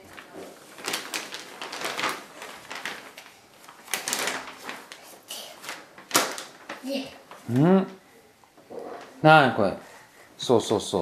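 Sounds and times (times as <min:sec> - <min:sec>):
plastic bag rustling and crinkling: 0:00.0 - 0:09.6.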